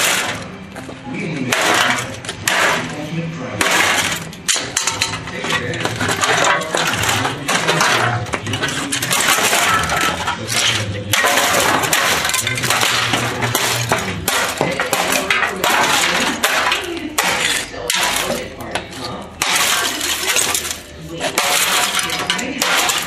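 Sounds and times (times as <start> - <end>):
broken parts clinking: 3.6 - 23.0.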